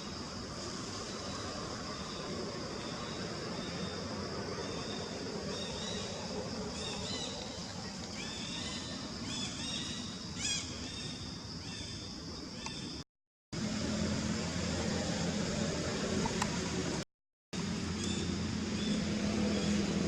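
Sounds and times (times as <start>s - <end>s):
steady outdoor hiss: 0.0s - 13.0s, 13.6s - 17.0s, 17.6s - 20.0s.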